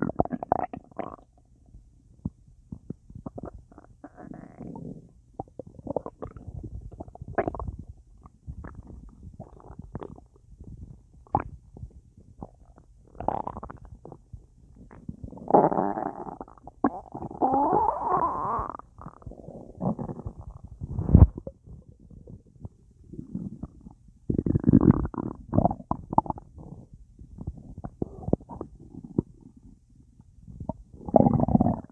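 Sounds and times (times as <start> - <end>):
stomach gurgling and rumbling: 0.0 - 31.9.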